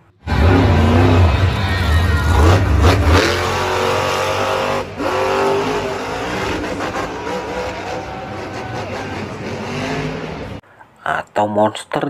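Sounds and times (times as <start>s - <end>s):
truck engine revving hard: 0.2s - 10.6s.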